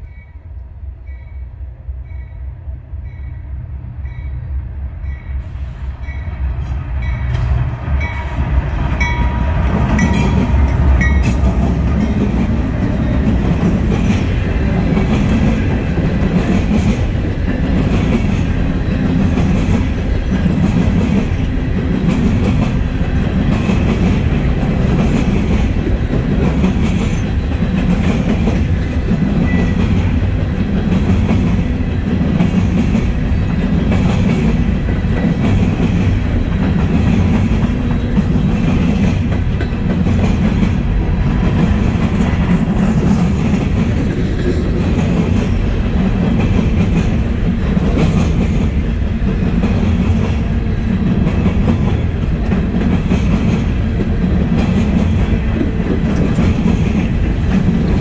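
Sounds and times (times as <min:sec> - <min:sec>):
diesel locomotives rumbling: 0:00.0 - 0:58.0
train wheels clattering on track: 0:05.1 - 0:58.0.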